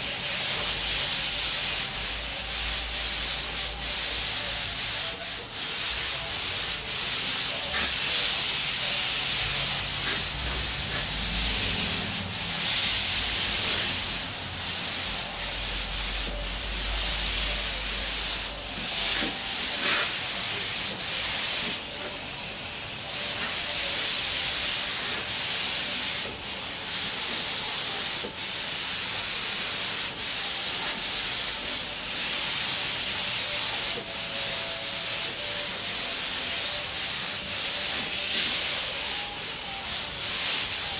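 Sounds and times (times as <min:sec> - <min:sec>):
paint spray gun hissing: 0:00.0 - 0:34.0, 0:34.8 - 0:40.9.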